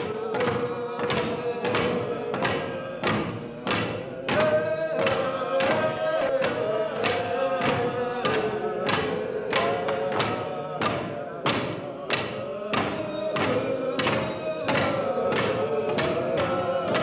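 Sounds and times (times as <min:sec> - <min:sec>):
wooden staffs striking stage floor: 0:00.0 - 0:17.0.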